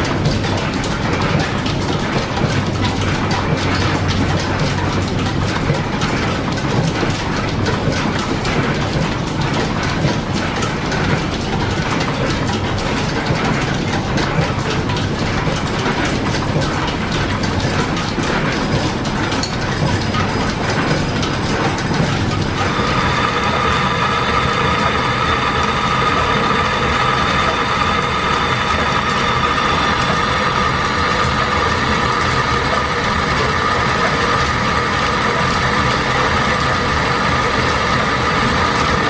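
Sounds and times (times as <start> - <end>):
lathe gears and belts clattering: 0.0 - 39.0.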